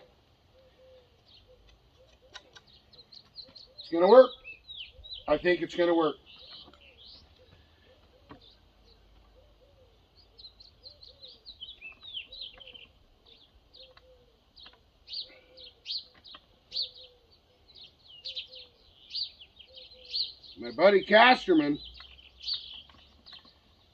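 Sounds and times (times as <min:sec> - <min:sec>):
softer lower bird call: 0:00.0 - 0:05.5, 0:06.2 - 0:20.6
small birds chirping: 0:00.0 - 0:23.9.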